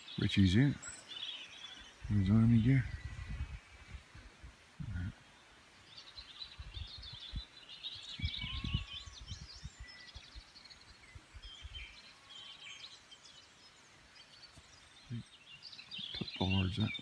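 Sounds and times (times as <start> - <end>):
birds singing and chirping: 0.0 - 17.0.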